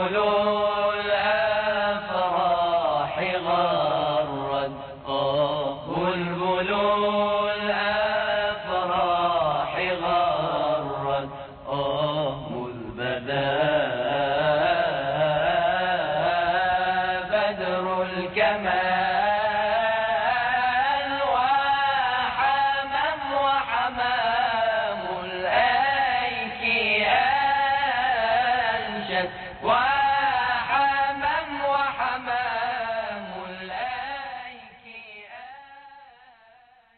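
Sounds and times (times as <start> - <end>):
man singing religious chant: 0.0 - 36.6.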